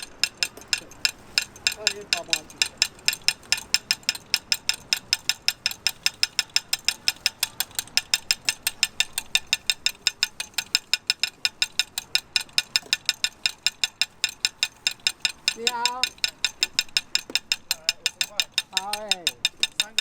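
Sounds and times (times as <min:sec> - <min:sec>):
rapid mechanical clicking: 0:00.0 - 0:20.0.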